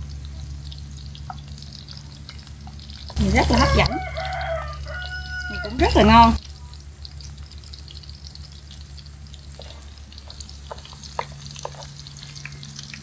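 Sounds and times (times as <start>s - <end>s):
food sizzling in hot oil: 0.0s - 13.0s
low steady hum: 0.0s - 13.0s
oil popping: 0.0s - 13.0s.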